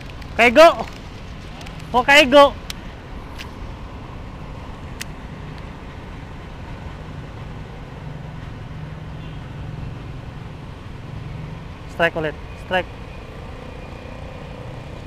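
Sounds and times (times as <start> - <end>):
road traffic rumble: 0.0 - 15.0
vehicle engine hum: 0.0 - 15.0.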